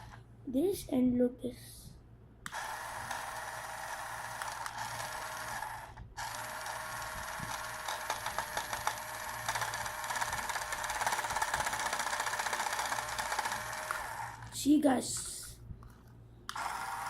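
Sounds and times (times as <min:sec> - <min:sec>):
mechanical whir with rattle: 0:02.4 - 0:17.0.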